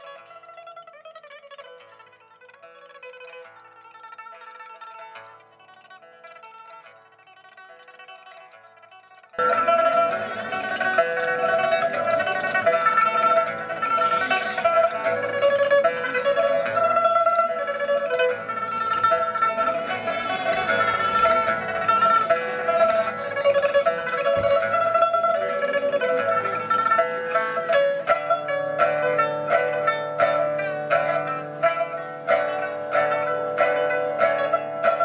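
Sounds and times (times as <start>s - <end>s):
plucked lute melody: 0.0s - 35.0s.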